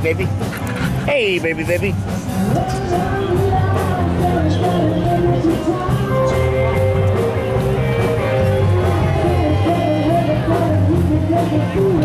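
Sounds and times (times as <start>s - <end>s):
rock and roll music: 0.0s - 12.0s.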